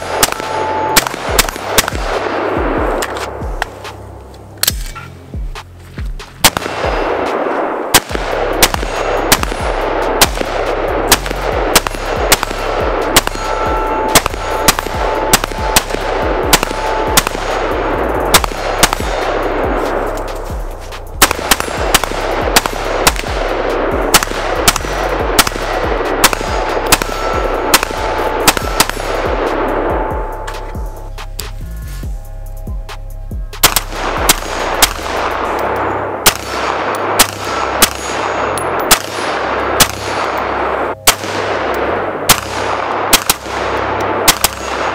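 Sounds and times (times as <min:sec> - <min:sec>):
rifle shots: 0:00.0 - 0:03.8, 0:06.4 - 0:31.5, 0:33.6 - 0:44.9
background music with bass: 0:00.0 - 0:44.9.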